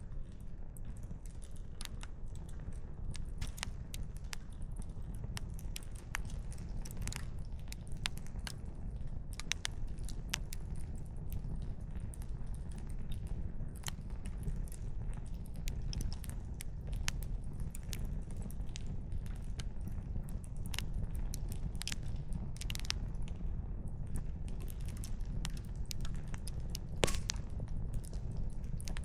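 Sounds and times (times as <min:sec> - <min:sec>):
low fire rumble: 0:00.0 - 0:29.0
wood fire crackling and popping: 0:00.0 - 0:29.0.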